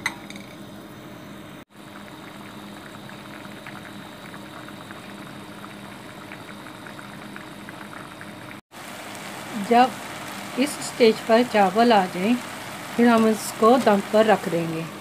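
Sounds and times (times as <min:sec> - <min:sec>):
rice boiling in a pan: 0:00.2 - 0:15.0.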